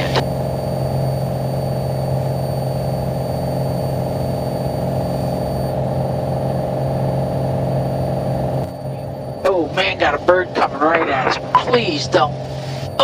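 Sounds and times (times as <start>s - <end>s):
airplane engine and propeller drone: 0.0s - 13.0s.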